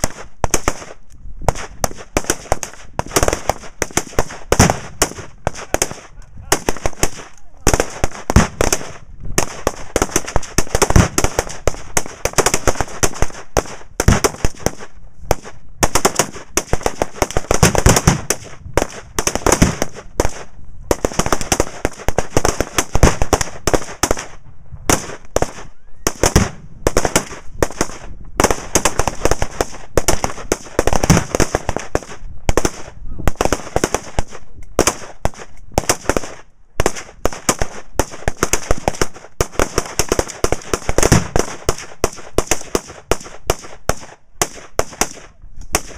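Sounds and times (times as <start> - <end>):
rapid rifle fire: 0.0 - 45.9.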